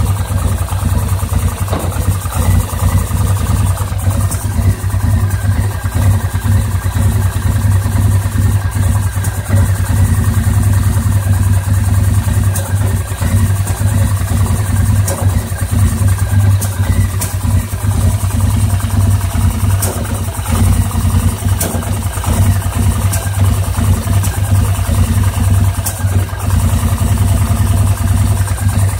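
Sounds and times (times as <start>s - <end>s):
atv engine idling rough: 0.0s - 28.9s
engine backfire pops: 0.0s - 28.9s.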